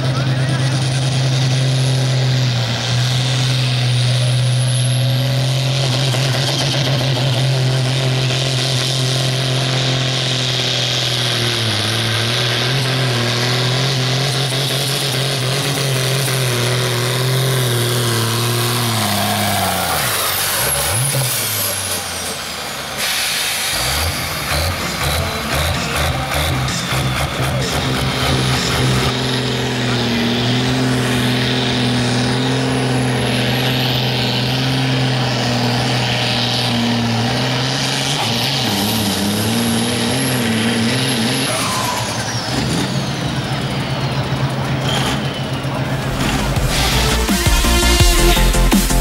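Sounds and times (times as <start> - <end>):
tractor diesel engine under heavy load: 0.0 - 49.0.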